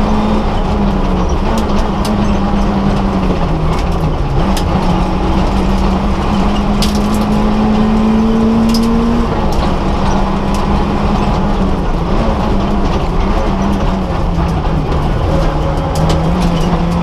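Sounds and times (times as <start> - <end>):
car engine under hard driving: 0.0 - 17.0
road noise: 0.0 - 17.0.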